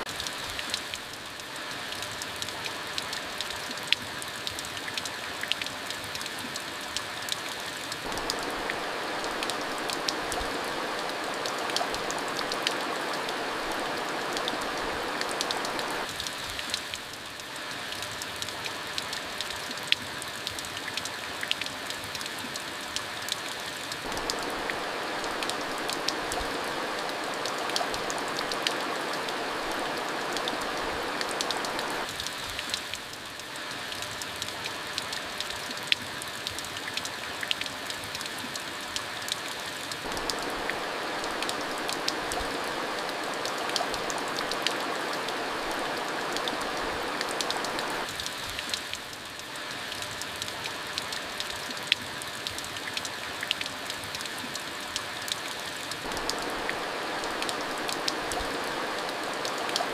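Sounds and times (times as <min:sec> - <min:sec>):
rain drops on a hard surface: 0:00.0 - 0:59.9.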